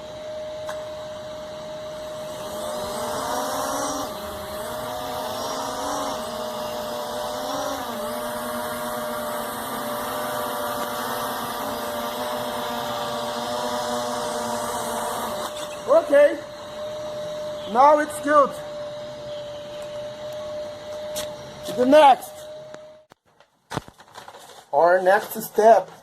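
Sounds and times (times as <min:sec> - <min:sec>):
drone propellers buzzing: 0:00.0 - 0:23.1.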